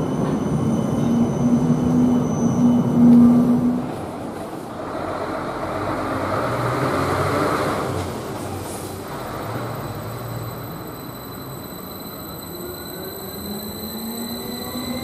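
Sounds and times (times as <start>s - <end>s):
train arriving: 0.0s - 15.0s
tram electric hum: 0.0s - 15.0s.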